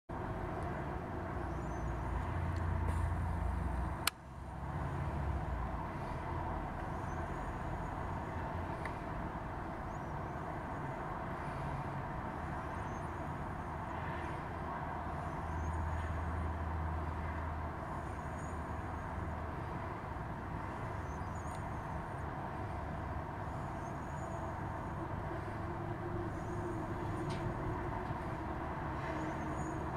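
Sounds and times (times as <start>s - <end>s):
distant road traffic rumble: 0.1s - 29.9s.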